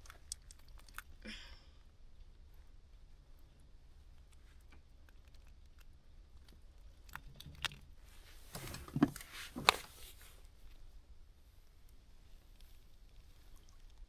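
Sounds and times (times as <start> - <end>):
small clicks and rustles: 0.0 - 1.2, 1.8 - 14.0.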